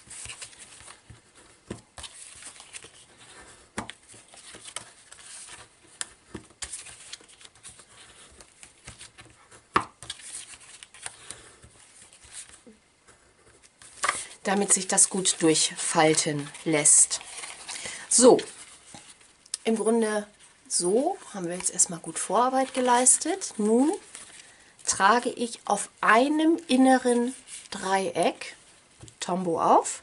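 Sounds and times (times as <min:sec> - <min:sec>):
paper crinkling and rustling: 0:00.0 - 0:19.4, 0:20.2 - 0:27.9.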